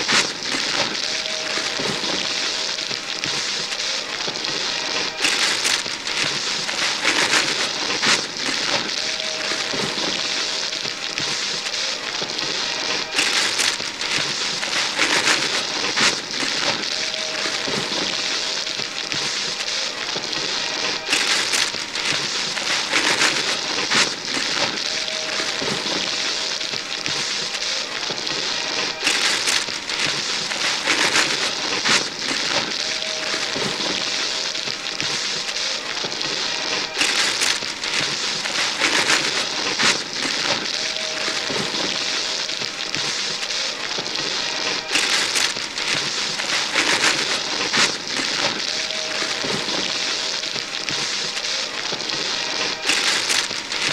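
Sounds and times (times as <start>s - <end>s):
wrapping paper tearing and crumpling: 0.0s - 53.9s.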